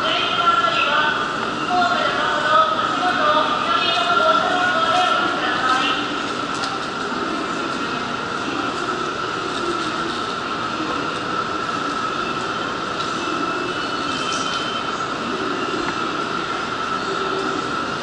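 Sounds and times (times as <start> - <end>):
train humming with high whine: 0.0 - 18.0.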